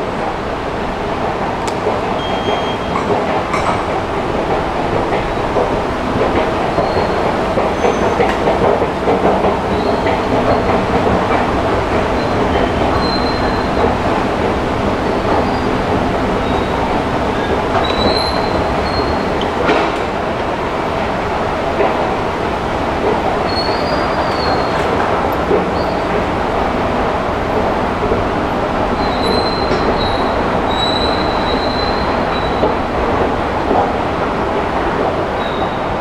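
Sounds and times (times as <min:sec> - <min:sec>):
metro station rumble: 0:00.0 - 0:36.0.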